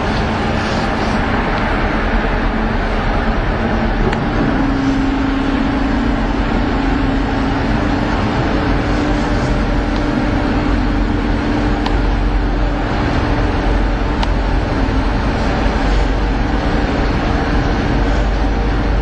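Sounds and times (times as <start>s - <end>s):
ferry engines rumbling: 0.0s - 19.0s
water churning and splashing: 0.0s - 19.0s.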